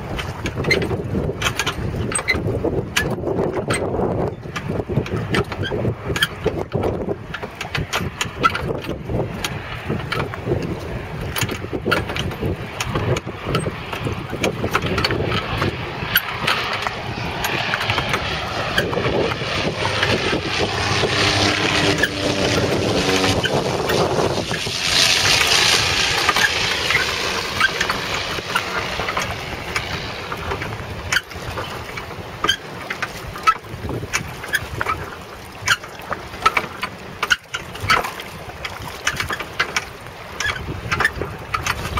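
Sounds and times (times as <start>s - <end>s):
propeller plane passing overhead: 0.0s - 41.9s
wind buffeting microphone: 0.0s - 41.9s.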